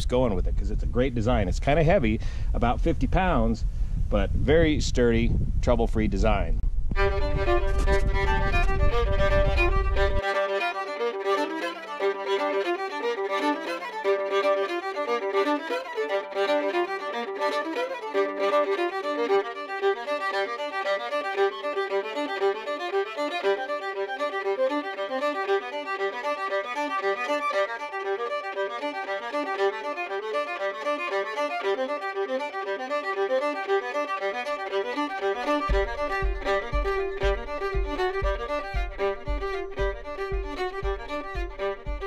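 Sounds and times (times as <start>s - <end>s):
low steady beat: 6.6s - 42.0s
fiddle playing quick melody: 6.8s - 42.0s.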